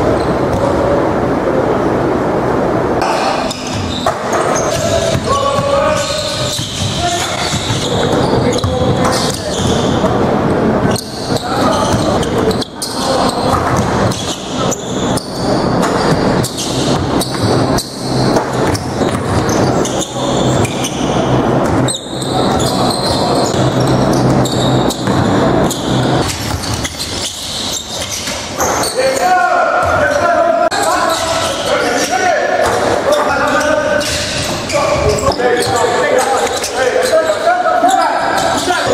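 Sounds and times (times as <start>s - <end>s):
players' voices: 0.0s - 27.2s, 28.0s - 38.9s.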